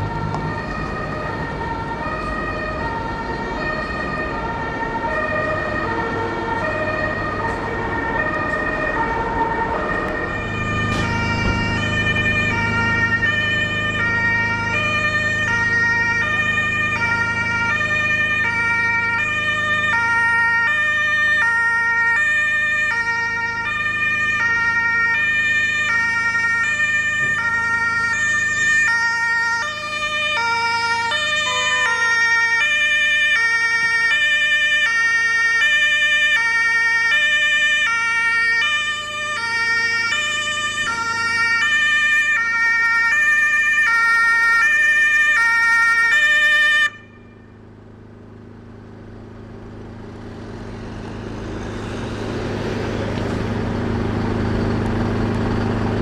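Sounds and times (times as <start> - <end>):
two-tone emergency siren: 0.0 - 47.7, 50.4 - 56.0
heavy vehicle engine rumble: 0.0 - 56.0.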